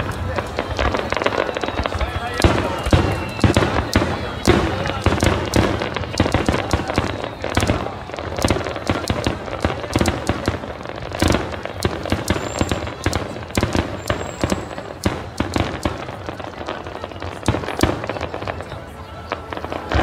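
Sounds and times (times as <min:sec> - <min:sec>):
firework shells bursting: 0:00.1 - 0:16.4.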